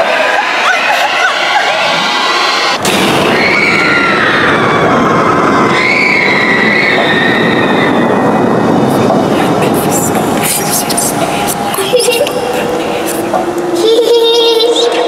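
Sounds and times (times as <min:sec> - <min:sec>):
loud rushing roar: 0:00.0 - 0:15.0.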